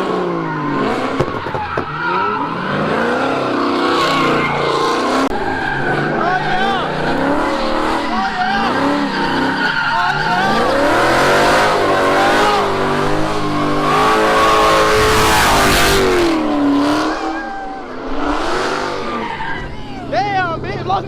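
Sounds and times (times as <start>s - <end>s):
car engine revving hard: 0.0s - 19.7s
tires spinning and squealing: 0.0s - 21.0s.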